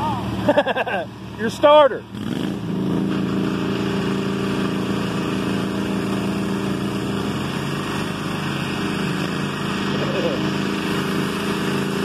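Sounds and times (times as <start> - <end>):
small tractor engine running: 0.0 - 12.0.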